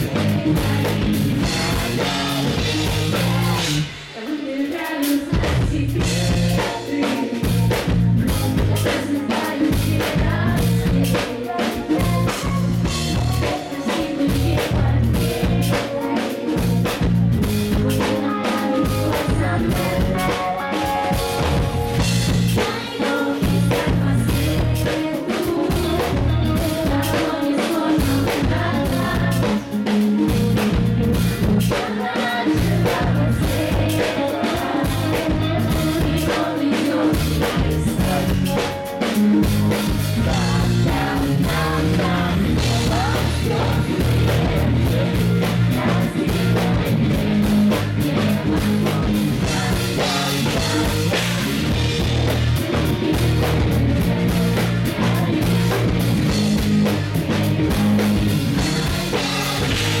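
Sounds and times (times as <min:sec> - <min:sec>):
woman singing into microphone: 0:00.0 - 0:39.2, 0:40.1 - 0:56.3, 0:56.9 - 1:00.0
pop-rock band playing: 0:00.0 - 1:00.0.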